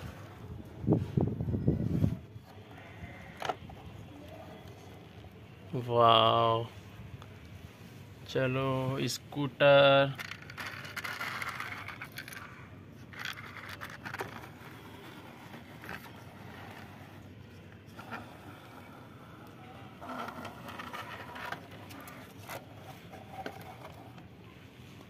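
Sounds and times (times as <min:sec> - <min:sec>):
plastic toy wheels scraping and rattling: 0:00.0 - 0:05.2, 0:09.8 - 0:25.0.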